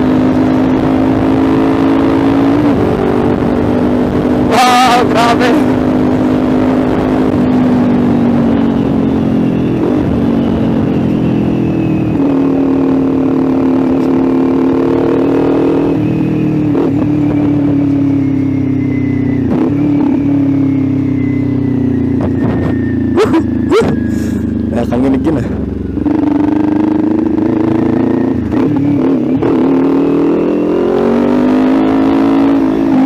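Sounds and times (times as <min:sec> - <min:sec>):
motorcycle engine cruising: 0:00.0 - 0:33.0.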